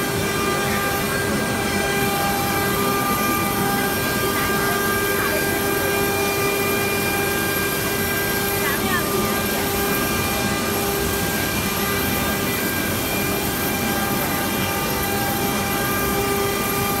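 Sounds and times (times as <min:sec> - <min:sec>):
router spindle whine cutting stone: 0:00.0 - 0:17.0.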